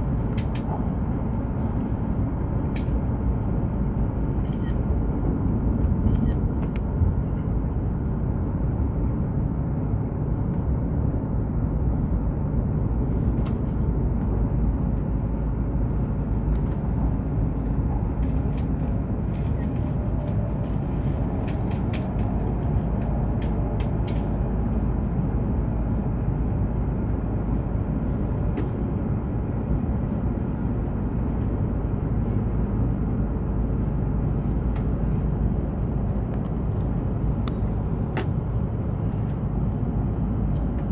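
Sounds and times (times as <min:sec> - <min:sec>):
train cabin rumble: 0:00.0 - 0:40.9.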